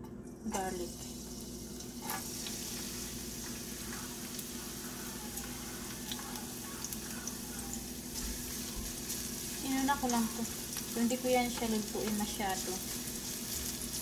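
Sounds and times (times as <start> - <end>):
garlic sizzling in oil: 0.5 - 14.0
spatula stirring in pan: 2.0 - 14.0.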